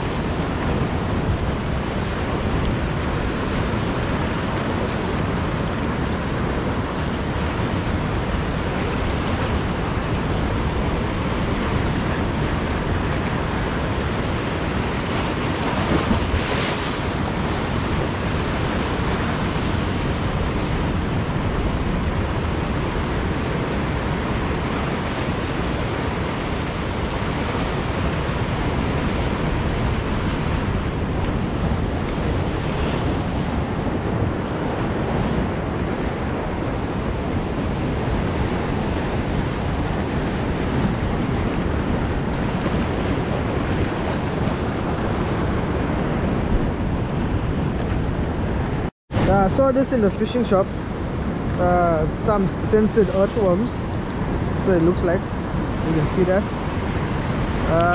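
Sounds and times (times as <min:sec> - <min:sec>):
surf breaking over rocks: 0:00.0 - 0:57.9
wind on microphone: 0:00.0 - 0:57.9.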